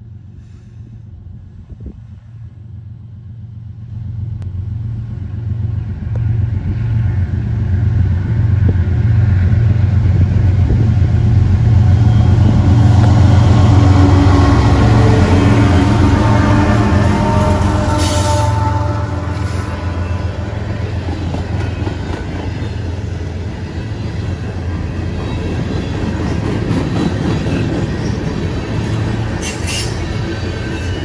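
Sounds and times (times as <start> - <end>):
diesel locomotive engines droning: 0.0 - 31.0.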